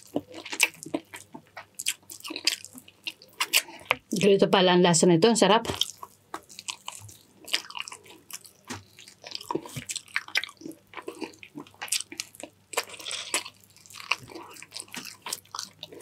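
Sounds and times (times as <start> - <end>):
wet chewing and mouth smacks: 0.0 - 4.2, 5.7 - 16.0.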